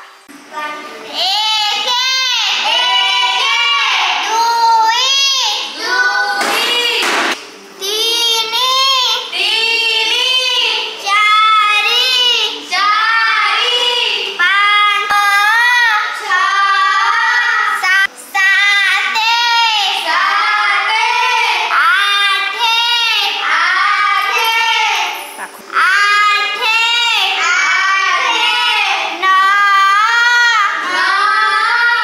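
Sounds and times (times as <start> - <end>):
child singing a chant: 0.5 - 32.0.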